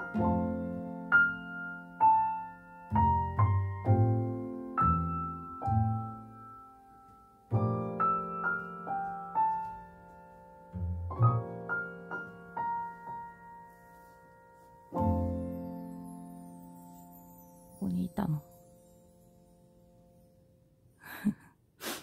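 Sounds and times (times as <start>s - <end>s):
gentle piano piece: 0.0s - 21.2s.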